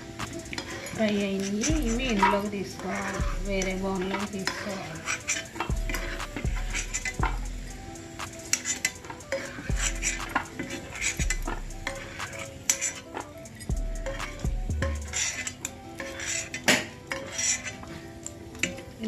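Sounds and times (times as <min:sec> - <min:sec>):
nuts sizzling in hot oil: 0:00.0 - 0:19.0
metal spoon clinking and scraping: 0:00.3 - 0:07.4, 0:08.3 - 0:19.0.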